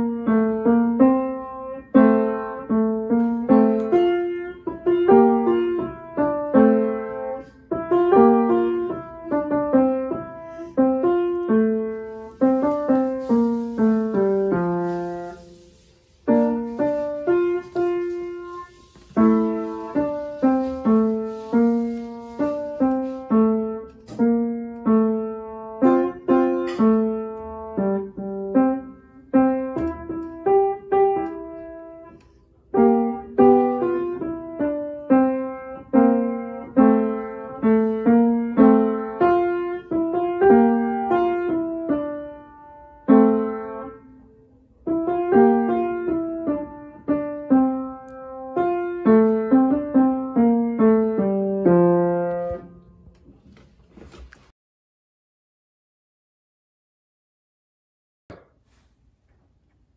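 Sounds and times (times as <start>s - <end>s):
piano melody: 0.0s - 53.1s.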